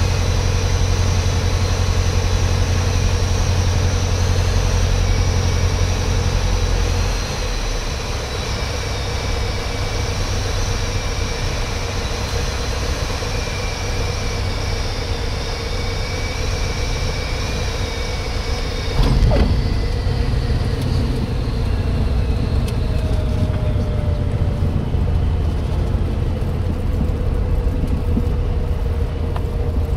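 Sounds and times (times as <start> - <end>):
propeller airplane engine drone: 0.0 - 29.9.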